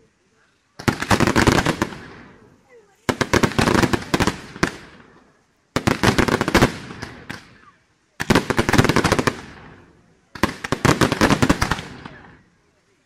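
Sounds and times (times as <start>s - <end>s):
fireworks rapid rattling bangs: 0.7s - 12.5s.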